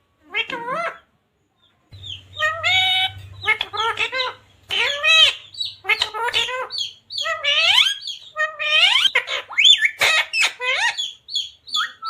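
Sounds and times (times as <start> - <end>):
parrot harsh calls: 2.0 - 12.0
parrot high chirps: 2.0 - 12.0.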